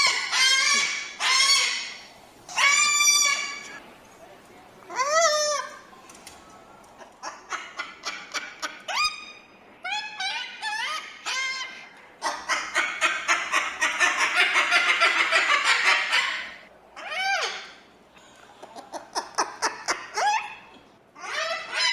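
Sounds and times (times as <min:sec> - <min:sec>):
cockatoo squawking and chattering: 0:00.0 - 0:03.8, 0:04.9 - 0:05.9, 0:07.0 - 0:17.8, 0:18.6 - 0:21.9.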